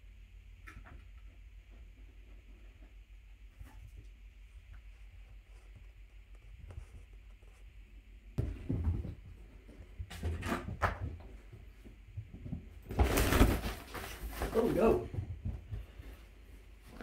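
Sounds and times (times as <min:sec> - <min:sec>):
kittens playing on carpet: 0:00.6 - 0:17.0.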